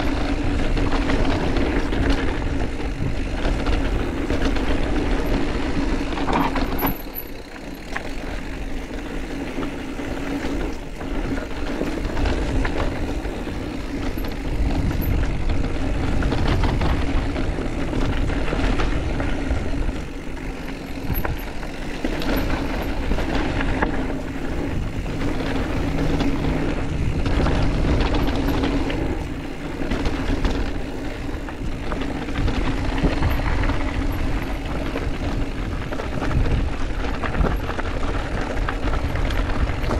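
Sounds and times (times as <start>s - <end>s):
bike rattling over bumps: 0.0s - 39.9s
bike tyres rolling: 0.0s - 39.9s
wind rush on microphone: 0.0s - 39.9s.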